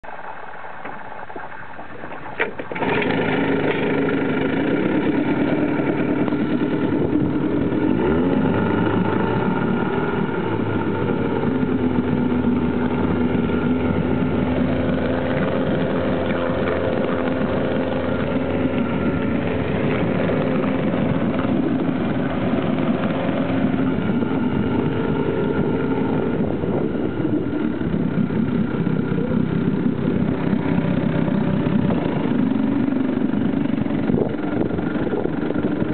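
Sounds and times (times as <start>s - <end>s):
outboard motor running: 0.0s - 35.9s.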